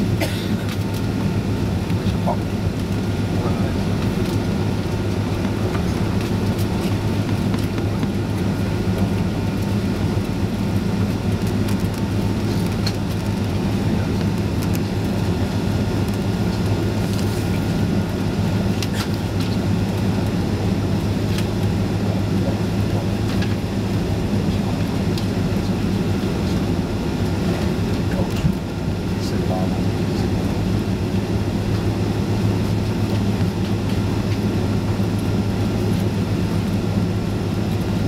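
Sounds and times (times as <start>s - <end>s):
air conditioning hum: 0.0s - 38.0s
jet engine hum: 0.0s - 38.0s.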